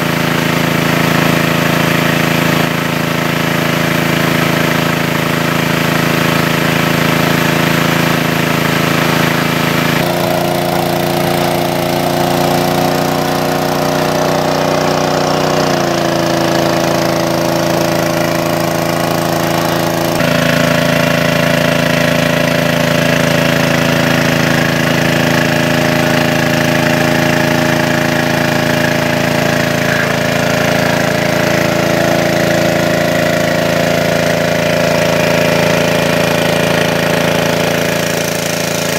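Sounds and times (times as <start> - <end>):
water pump engine droning: 0.0 - 38.9.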